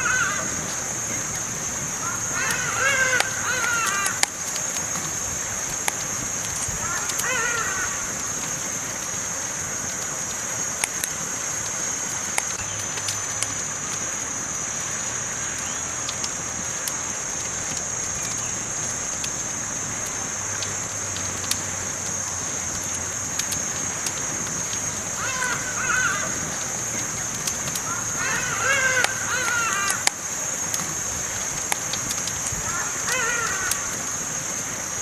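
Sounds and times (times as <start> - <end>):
campfire crackling and popping: 0.0 - 35.0
steady high hiss: 0.0 - 35.0.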